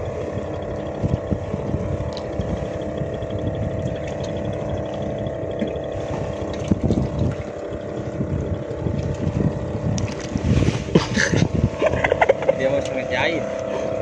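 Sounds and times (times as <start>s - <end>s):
boat engine humming: 0.0s - 14.0s
wind buffeting microphone: 0.0s - 14.0s.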